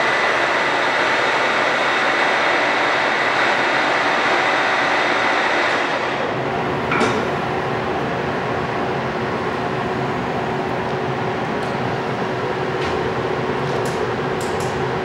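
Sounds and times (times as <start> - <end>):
lathe whirring with faint whine: 0.0 - 15.0.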